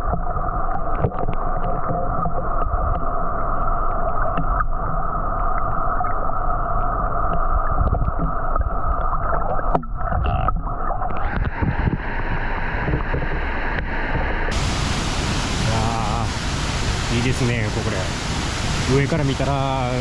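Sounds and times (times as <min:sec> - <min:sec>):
muffled underwater water churning: 0:00.0 - 0:20.0.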